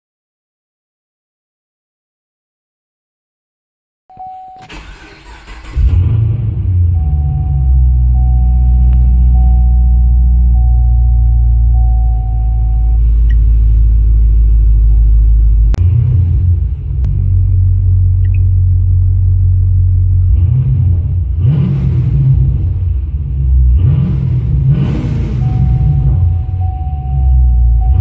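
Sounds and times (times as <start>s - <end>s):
car engine idling and revving: 4.2s - 28.0s.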